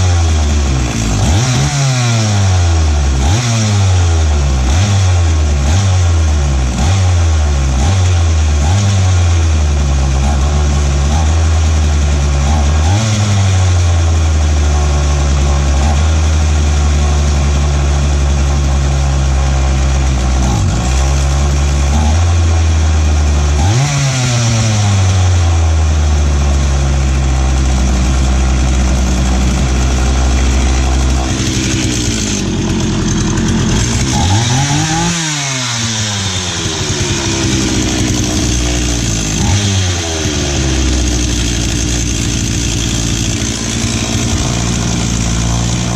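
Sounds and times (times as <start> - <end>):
chainsaw revving: 0.0 - 45.9.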